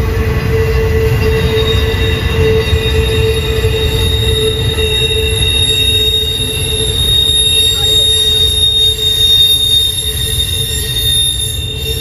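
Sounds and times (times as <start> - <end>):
low train rumble: 0.0 - 12.0
train wheels squealing on rails: 0.0 - 12.0.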